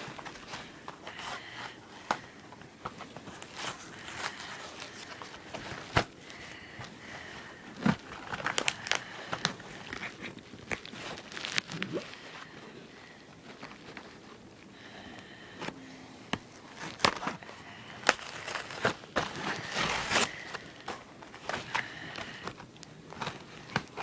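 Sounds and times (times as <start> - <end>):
packaging crinkling and clicking: 0.0 - 12.6, 15.6 - 24.0.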